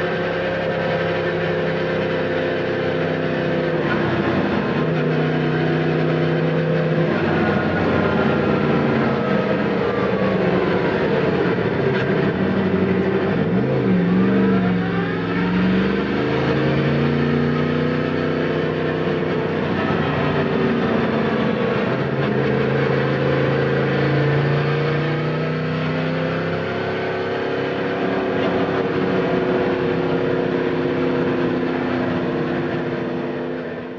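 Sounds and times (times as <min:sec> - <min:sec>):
motorcycle engine while riding: 0:00.0 - 0:33.9.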